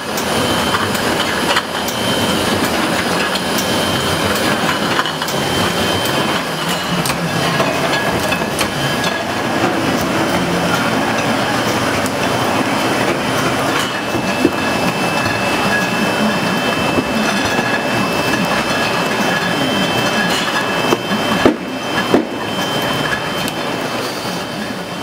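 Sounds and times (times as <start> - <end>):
bottling machinery din: 0.0 - 25.0
glass bottles clinking: 0.2 - 23.4.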